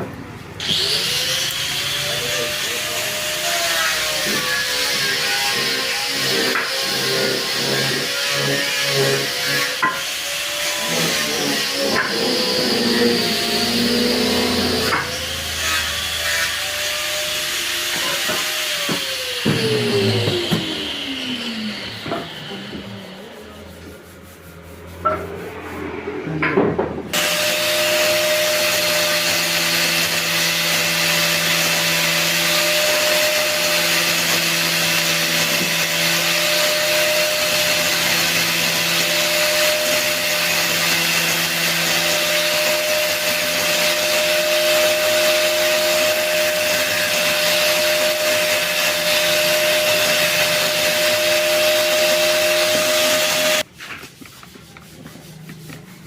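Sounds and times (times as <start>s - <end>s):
angle grinder sanding wood: 0.6s - 26.0s, 27.1s - 56.0s.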